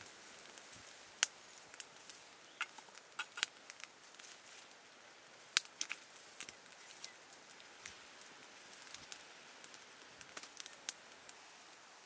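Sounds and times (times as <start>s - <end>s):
campfire crackling and popping: 0.0s - 12.0s
faint hiss: 0.0s - 12.0s.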